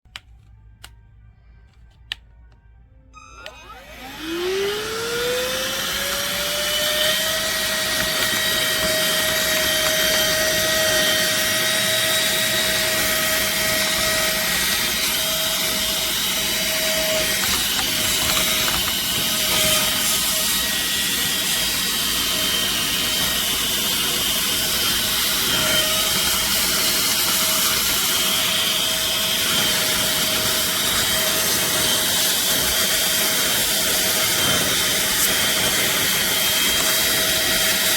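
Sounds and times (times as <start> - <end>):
mini vacuum motor whining: 3.2 - 37.9.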